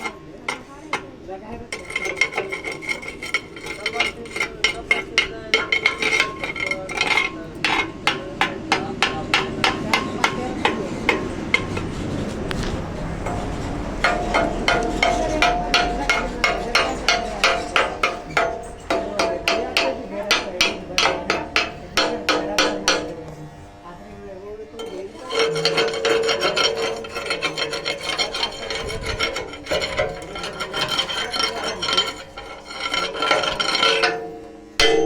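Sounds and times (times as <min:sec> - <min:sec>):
metal ringing: 0:00.0 - 0:12.1, 0:14.0 - 0:23.3, 0:24.8 - 0:35.0
hammer striking metal: 0:01.8 - 0:11.9, 0:14.0 - 0:23.2, 0:24.8 - 0:35.0.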